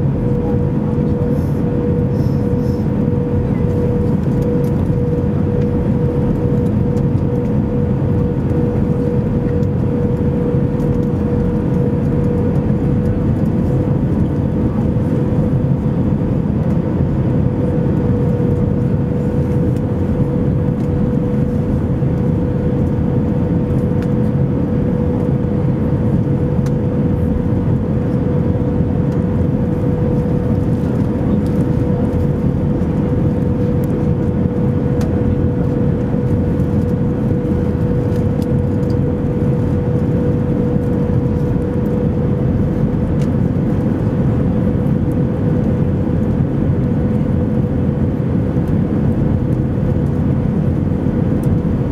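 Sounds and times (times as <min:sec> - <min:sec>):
aircraft cabin engine roar: 0:00.0 - 0:51.9.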